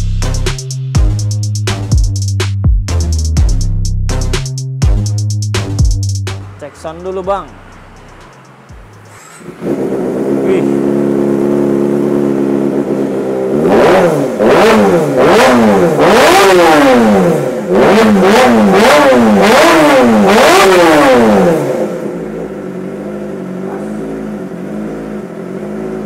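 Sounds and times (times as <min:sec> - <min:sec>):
motorcycle engine revving: 0:04.2 - 0:26.0.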